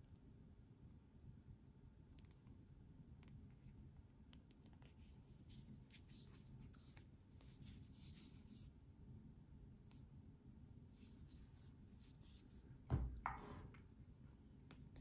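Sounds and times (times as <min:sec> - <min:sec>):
low steady background hiss: 0:00.0 - 0:15.0.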